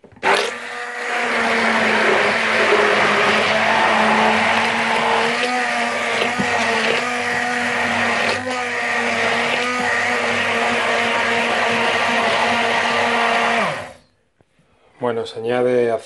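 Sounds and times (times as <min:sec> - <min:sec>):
hand blender beating eggs: 0:00.0 - 0:14.0.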